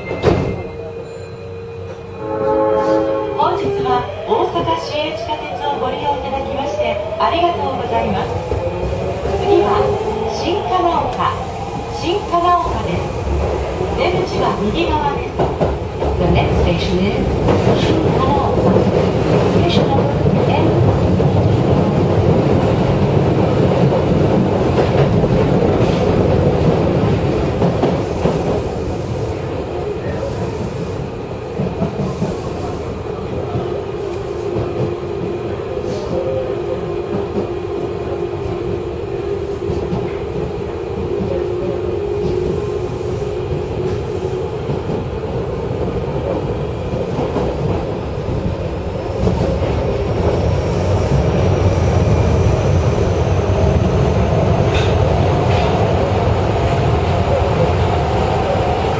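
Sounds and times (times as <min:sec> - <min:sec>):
train wheels rumbling on track: 0:03.4 - 0:58.9.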